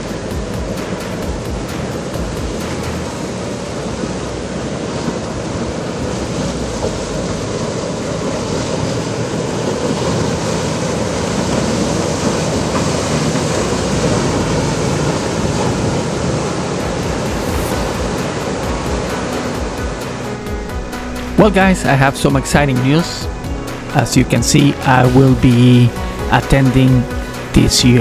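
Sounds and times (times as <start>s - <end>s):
boat engine drone: 0.0s - 28.0s
rush of hull spray and wake: 0.0s - 28.0s.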